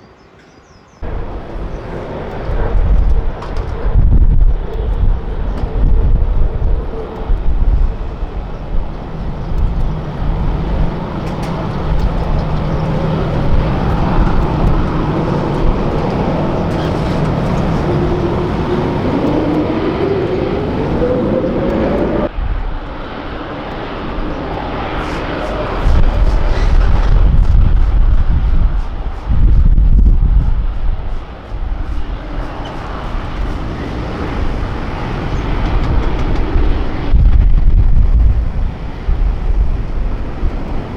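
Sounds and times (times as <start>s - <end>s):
jet engines whining: 1.0s - 40.9s
wind buffeting microphone: 1.0s - 40.9s.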